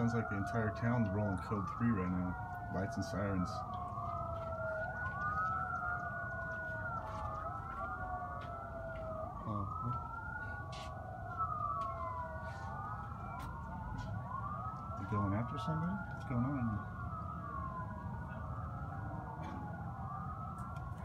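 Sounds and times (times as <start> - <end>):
emergency vehicle sirens wailing: 0.0 - 21.0.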